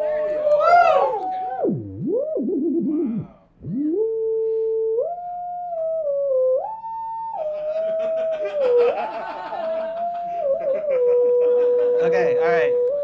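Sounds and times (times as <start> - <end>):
swooping electronic sine tone: 0.0 - 13.0.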